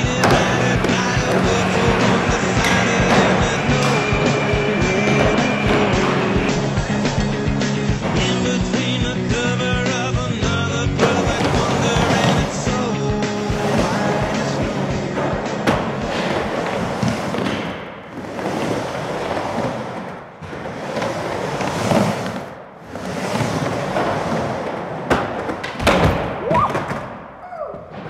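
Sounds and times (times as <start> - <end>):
skateboard wheels rolling on wood: 0.0 - 27.1.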